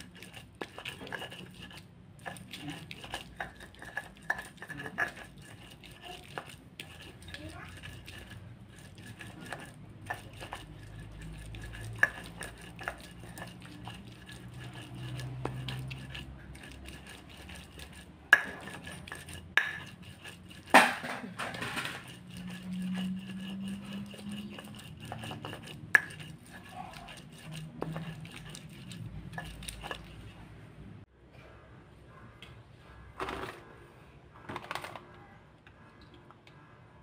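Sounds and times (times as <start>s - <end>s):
stone pestle scraping mortar: 0.0s - 30.6s.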